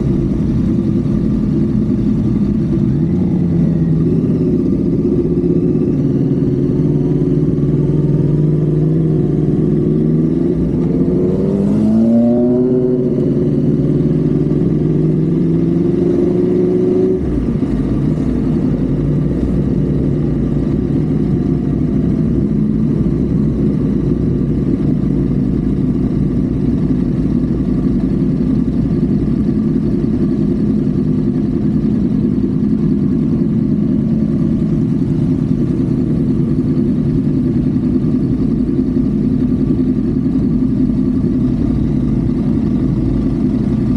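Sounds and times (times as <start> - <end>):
car engine at highway speed: 0.0 - 43.9.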